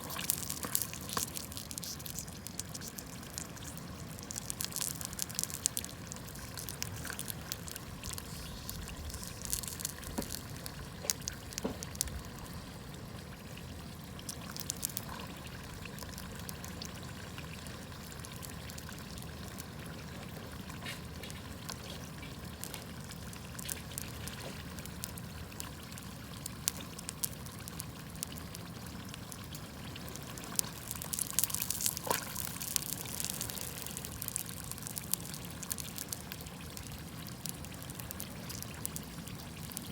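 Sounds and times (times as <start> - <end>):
campfire crackling and popping: 0.0 - 12.6, 13.3 - 39.9.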